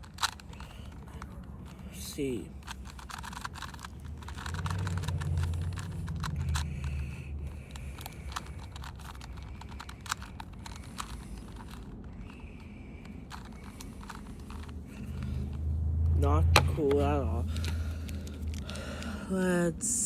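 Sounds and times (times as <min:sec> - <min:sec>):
plastic puzzle cube clicking: 0:00.0 - 0:19.2
low rumble: 0:02.5 - 0:19.4.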